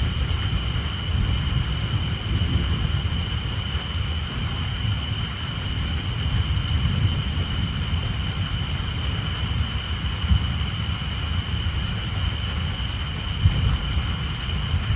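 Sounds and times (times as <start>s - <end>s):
low thunder rumble: 0.0s - 14.9s
rain on a tin roof: 0.0s - 14.9s.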